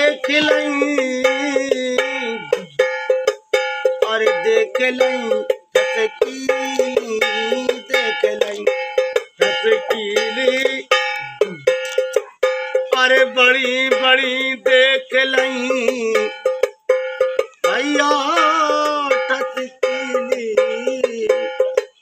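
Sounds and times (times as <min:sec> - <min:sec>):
man singing folk melody: 0:00.0 - 0:21.9.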